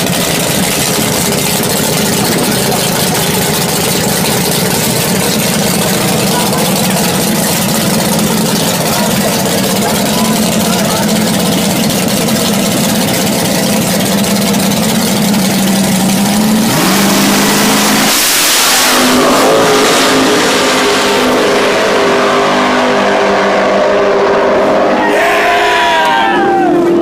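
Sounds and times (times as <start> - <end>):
car engine idling loudly: 0.0 - 27.0
car engine revving and accelerating: 0.0 - 27.0.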